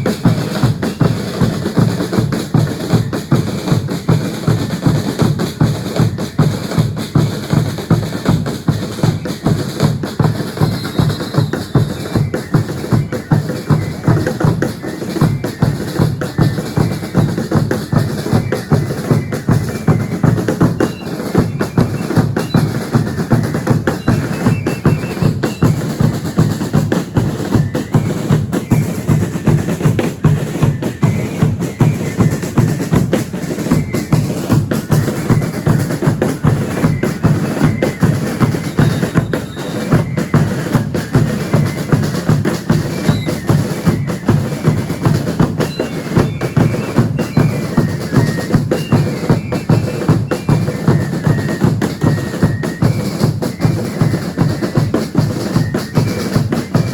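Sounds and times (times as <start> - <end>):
bass drums and snare drums beating: 0.0 - 56.9.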